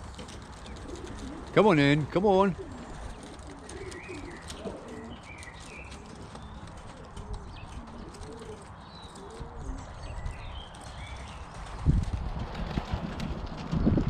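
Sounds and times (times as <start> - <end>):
pigeons cooing: 0.0 - 13.9.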